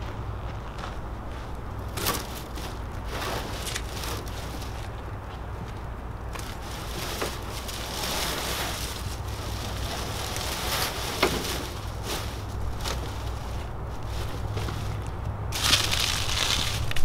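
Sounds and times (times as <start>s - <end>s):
dry grass rustling and crackling: 0.0s - 17.0s
low steady hum: 0.0s - 17.0s.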